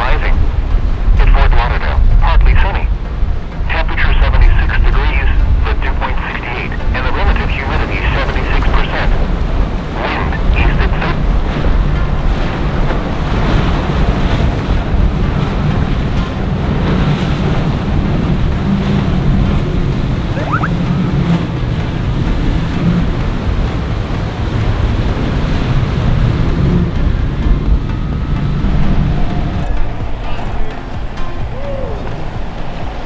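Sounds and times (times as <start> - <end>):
wind buffeting microphone: 0.0 - 7.4, 8.2 - 33.0
boat engines rumbling: 0.0 - 33.0
surf washing: 0.0 - 33.0.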